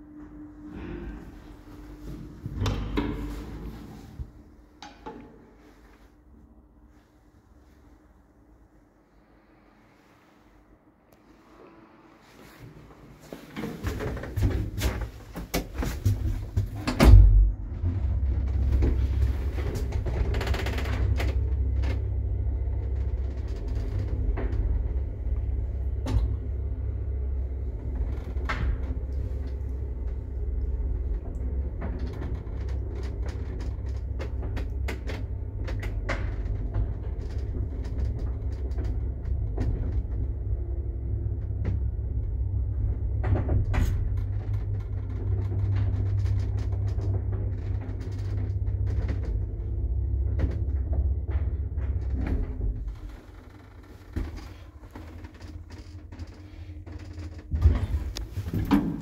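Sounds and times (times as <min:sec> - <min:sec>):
elevator car rumbling: 0:00.0 - 0:06.1, 0:11.2 - 0:59.0.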